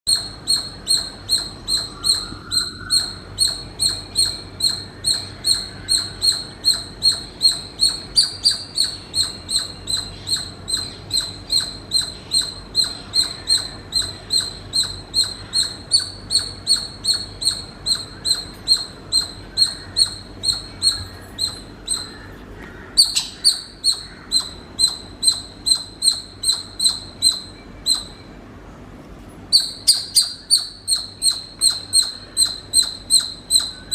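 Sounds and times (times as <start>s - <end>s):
squirrel chirping: 0.1s - 22.4s, 23.0s - 28.4s, 29.5s - 33.9s.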